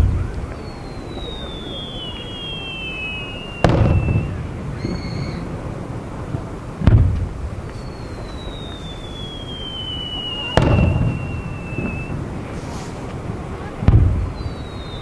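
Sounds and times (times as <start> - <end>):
falling firework whistle: 0.0 - 5.6, 7.0 - 13.1, 13.9 - 15.0
fireworks booming: 0.0 - 15.0.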